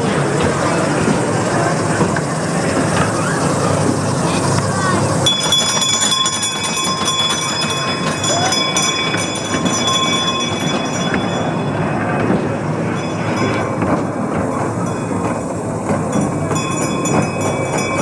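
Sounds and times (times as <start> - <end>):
train wheels rolling on rails: 0.0 - 18.0
thin high tones: 3.4 - 18.0.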